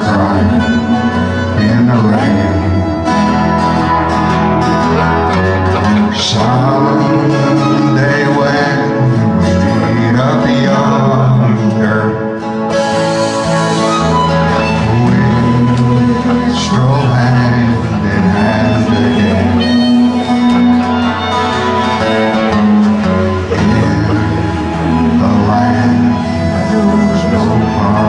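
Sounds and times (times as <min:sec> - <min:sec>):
acoustic guitar: 0:00.0 - 0:28.0
harmonicas playing melody: 0:00.0 - 0:28.0.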